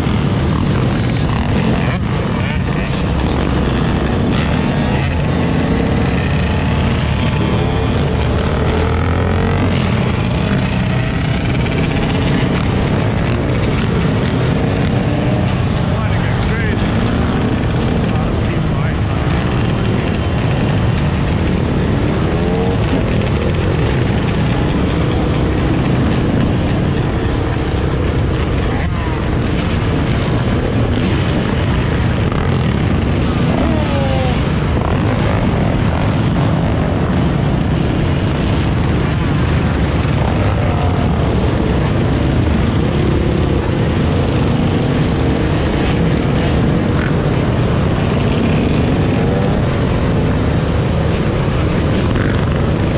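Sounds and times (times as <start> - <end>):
dirt bike engines rumbling: 0.0 - 52.9
dirt bike revving: 0.0 - 52.9.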